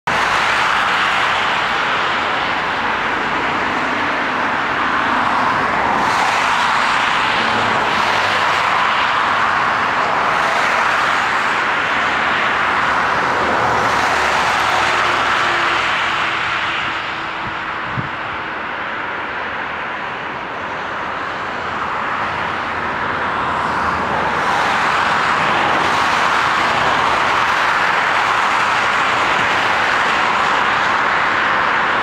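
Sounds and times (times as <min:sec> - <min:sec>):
jet engines landing: 0:00.1 - 0:32.0.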